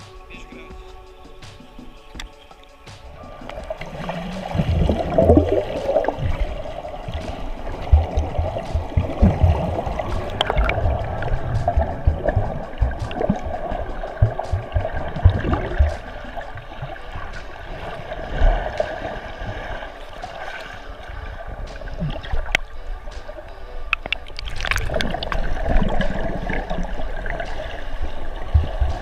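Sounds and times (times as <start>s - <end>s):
underwater churning and bubbling: 0.0s - 29.0s.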